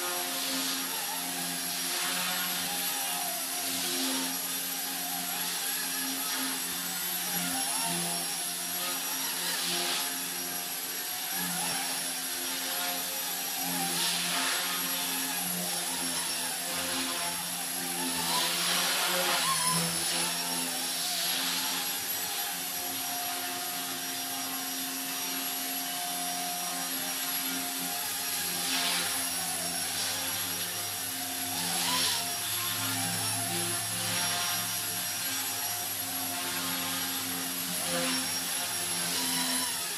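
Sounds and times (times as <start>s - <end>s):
electric motor whine: 0.0s - 39.9s
rotor blades whirring: 0.0s - 39.9s.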